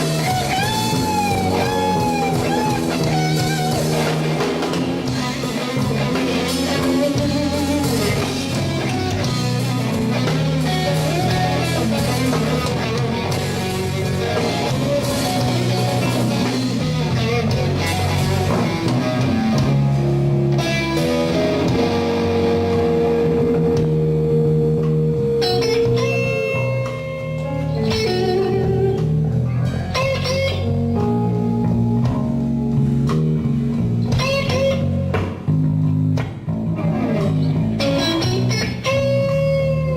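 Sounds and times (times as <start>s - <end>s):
electric guitar lead bending notes: 0.0s - 39.9s
slow blues band: 0.0s - 39.9s.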